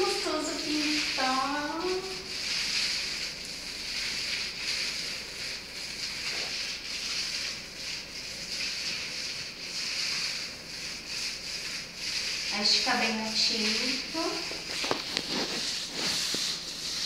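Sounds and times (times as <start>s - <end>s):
paint roller rolling on wall: 0.0s - 17.0s.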